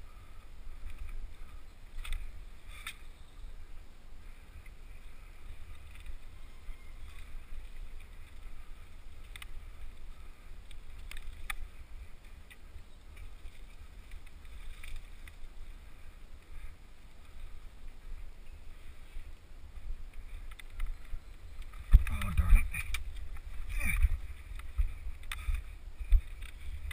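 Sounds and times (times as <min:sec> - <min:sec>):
bike trail vibration: 0:00.0 - 0:26.9
wind rumble on microphone: 0:00.0 - 0:26.9.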